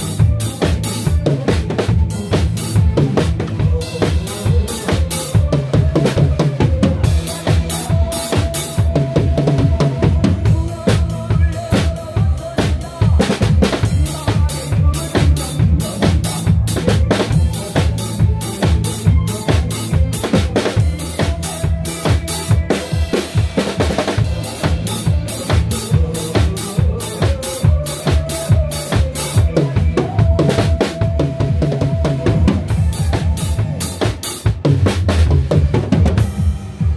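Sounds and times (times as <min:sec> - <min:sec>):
acoustic drum kit: 0:00.0 - 0:36.9
backing track with bass and melody: 0:00.0 - 0:36.9.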